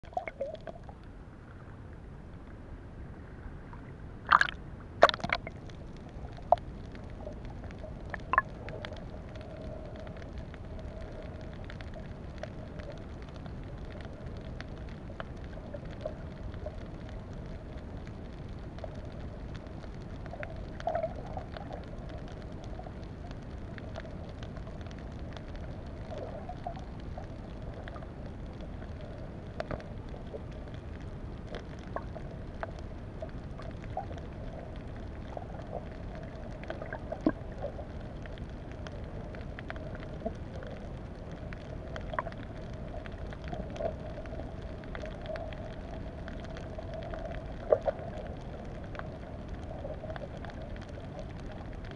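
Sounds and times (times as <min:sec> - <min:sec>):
faint hum: 0:00.0 - 0:51.9
muffled underwater rush: 0:00.0 - 0:51.9.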